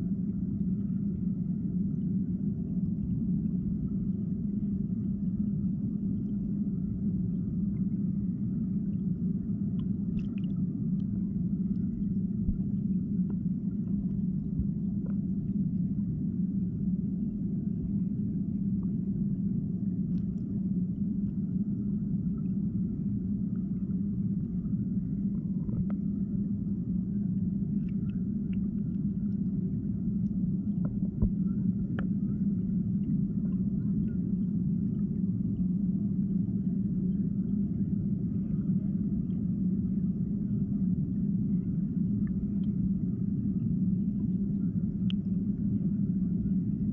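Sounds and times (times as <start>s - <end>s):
underwater river rumble: 0.0s - 46.9s.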